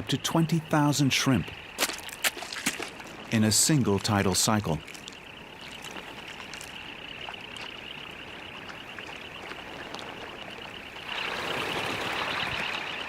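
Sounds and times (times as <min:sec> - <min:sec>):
sandpipers chattering: 0:00.0 - 0:13.0
water washing: 0:00.0 - 0:13.0.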